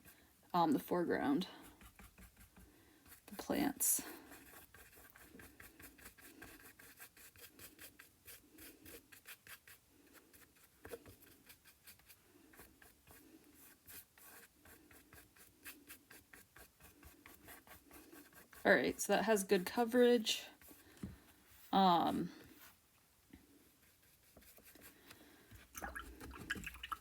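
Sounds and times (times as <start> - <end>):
paintbrush scrubbing on canvas: 1.2 - 21.8, 23.7 - 27.0.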